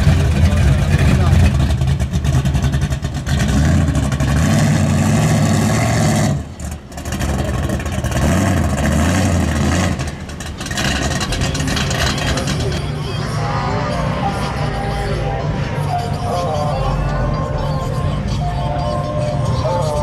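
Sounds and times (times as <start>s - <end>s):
supercharged car engine revving: 0.0s - 20.0s.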